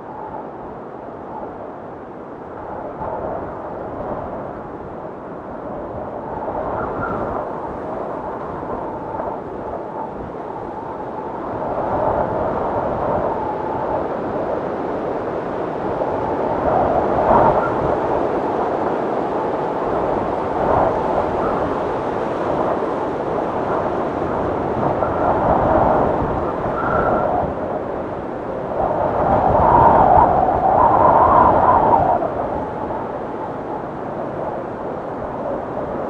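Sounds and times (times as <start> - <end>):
blizzard wind gusting: 0.0 - 36.0
high wind whistles: 0.0 - 36.0.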